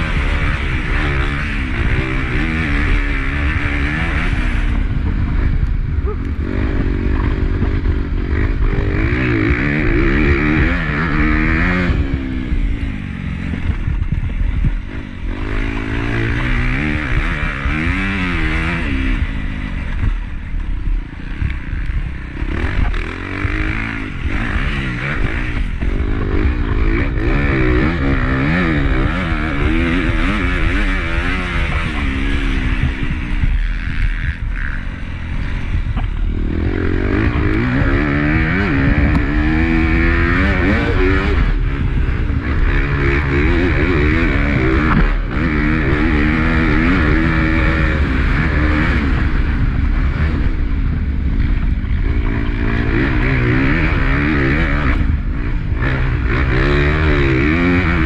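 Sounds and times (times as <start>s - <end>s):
bike rattling: 0.0s - 58.0s
motorcycle engine revving: 0.0s - 58.0s.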